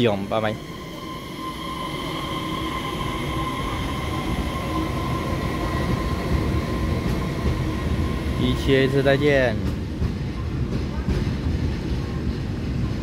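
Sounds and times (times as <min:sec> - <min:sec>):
electric train rolling past: 0:00.0 - 0:13.0.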